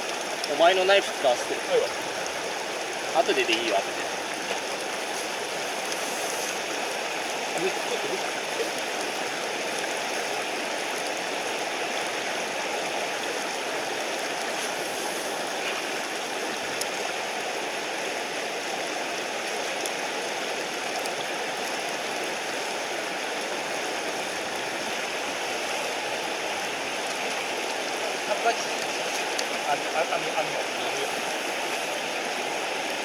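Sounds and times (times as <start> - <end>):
mountain stream rushing: 0.0 - 33.0.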